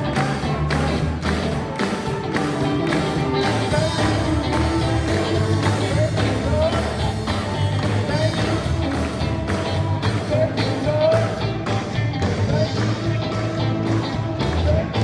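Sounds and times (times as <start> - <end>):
gospel band playing: 0.0 - 15.0.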